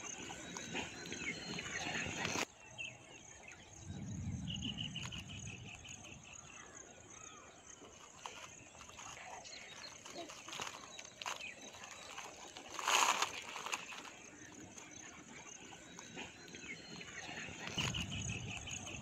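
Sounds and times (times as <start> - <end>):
insect trill: 0.0 - 19.0
rapid insect chirps: 0.0 - 19.0.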